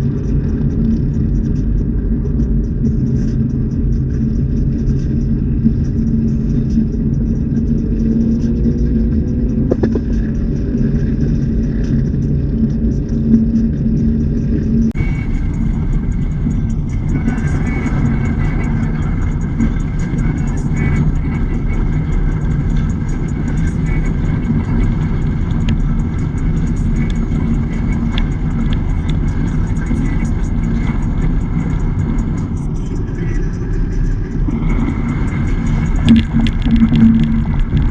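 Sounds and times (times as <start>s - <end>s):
car engine droning at cruise: 0.0s - 37.9s.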